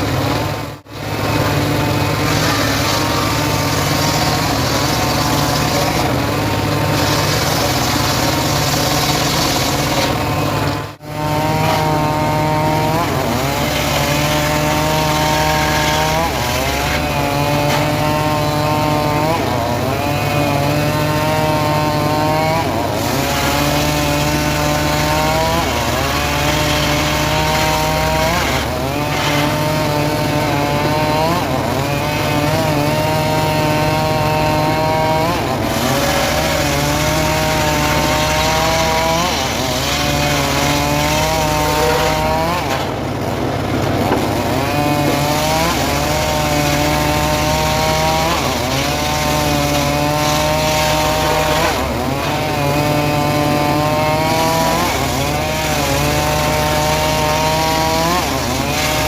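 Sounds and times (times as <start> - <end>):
engine drone: 0.0 - 59.0
saw whine: 0.0 - 59.0.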